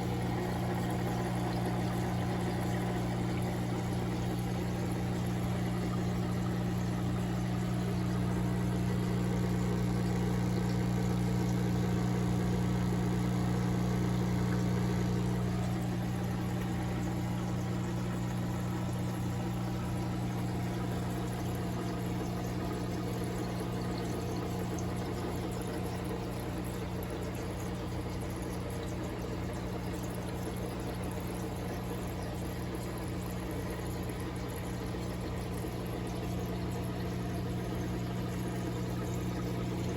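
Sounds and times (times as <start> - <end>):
water pouring and trickling: 0.0 - 12.0, 14.1 - 39.9
aquarium filter pump humming: 0.0 - 39.9.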